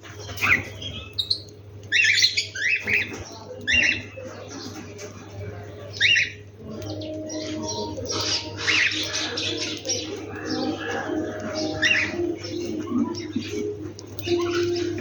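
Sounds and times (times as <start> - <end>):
birds singing and chirping: 0.0 - 15.0.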